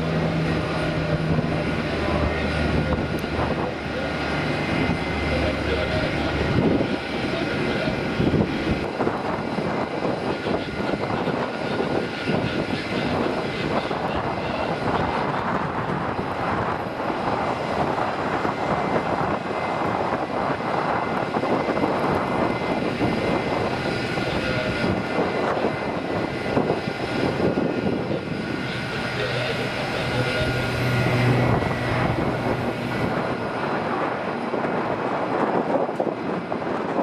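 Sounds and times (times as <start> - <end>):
turboprop engines at high power: 0.0 - 37.0.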